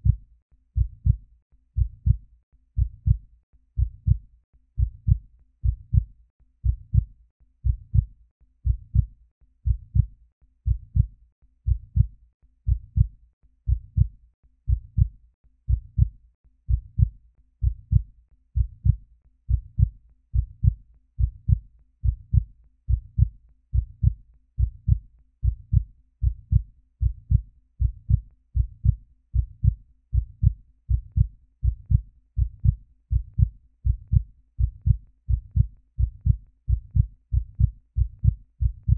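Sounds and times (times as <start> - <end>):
heartbeat thumps: 0.0 - 0.2, 0.8 - 1.2, 1.8 - 2.2, 2.8 - 3.2, 3.8 - 4.2, 4.8 - 10.1, 10.7 - 11.1, 11.7 - 12.1, 12.7 - 13.1, 13.7 - 14.1, 14.7 - 15.1, 15.7 - 38.9.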